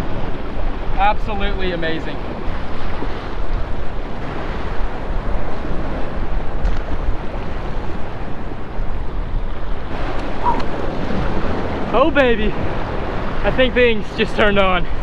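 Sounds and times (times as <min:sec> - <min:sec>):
surf washing against jetty: 0:00.0 - 0:15.0
wind buffeting microphone: 0:00.0 - 0:15.0.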